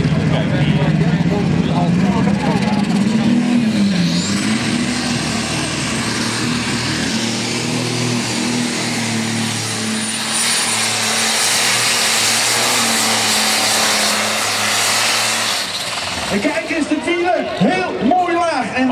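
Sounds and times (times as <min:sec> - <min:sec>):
tractor engine droning: 0:00.0 - 0:18.0
loud rushing noise: 0:01.1 - 0:17.6.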